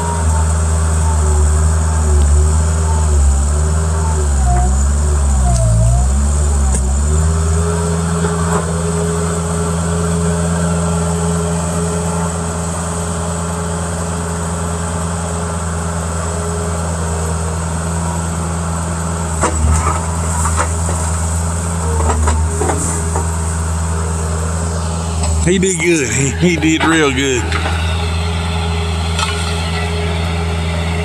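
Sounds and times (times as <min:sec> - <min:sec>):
loader diesel engine running: 0:00.0 - 0:31.0.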